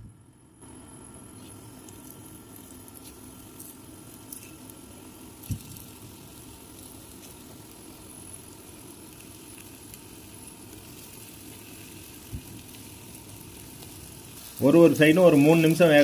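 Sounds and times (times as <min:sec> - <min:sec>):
oil sizzling in a pan: 0:01.3 - 0:16.0.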